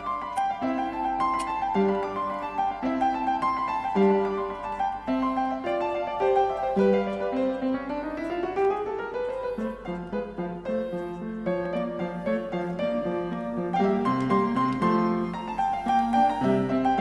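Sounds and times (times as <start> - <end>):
piano music with quick notes: 0.0 - 17.0.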